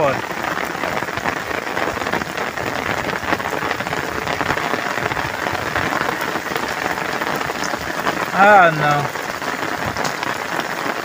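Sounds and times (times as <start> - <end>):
rain pouring on puddled earth: 0.0 - 11.0.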